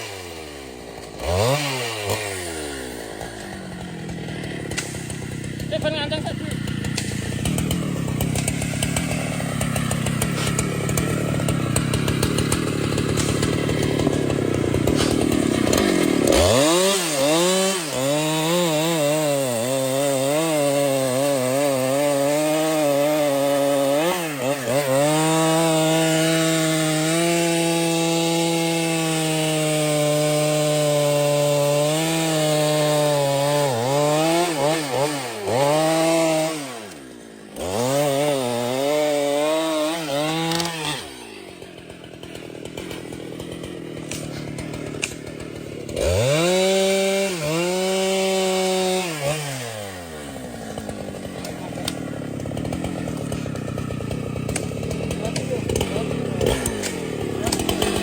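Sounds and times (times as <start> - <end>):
chainsaw cutting into tree trunk: 0.0 - 58.0.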